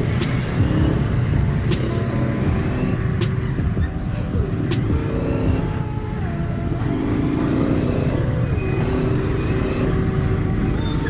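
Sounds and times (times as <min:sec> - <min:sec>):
motorcycle engine running: 0:00.0 - 0:09.9
road traffic rumble: 0:00.0 - 0:11.0
wind: 0:00.0 - 0:11.0.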